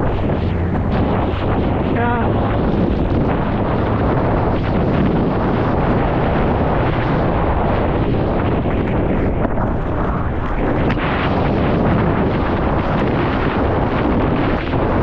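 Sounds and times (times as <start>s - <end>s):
big surf: 0.0s - 15.0s
wind roaring on microphone: 0.0s - 15.0s.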